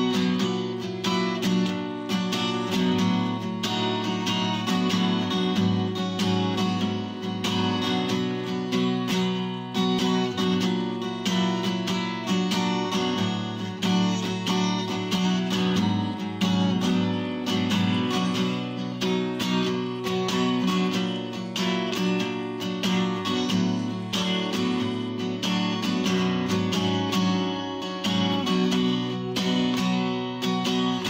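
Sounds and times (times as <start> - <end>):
acoustic guitar picking and strumming: 0.0 - 31.0.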